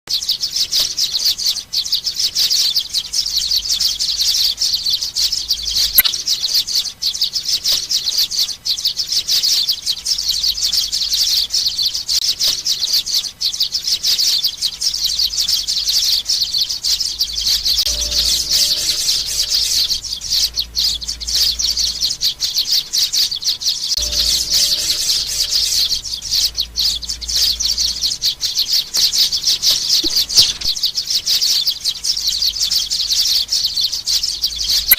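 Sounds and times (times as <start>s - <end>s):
young sparrows chirping: 0.1s - 34.9s.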